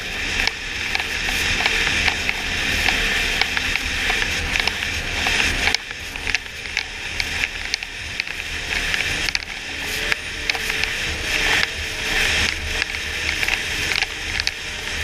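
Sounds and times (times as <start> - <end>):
sharp clicks and rattles: 0.0 - 15.0
snowmobile engine and track noise: 0.0 - 15.0.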